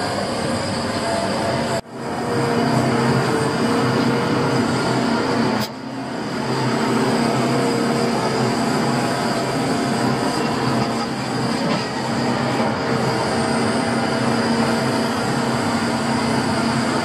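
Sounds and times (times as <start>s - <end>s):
hydraulic crane whine: 0.0s - 17.0s
truck engine running: 0.0s - 17.0s.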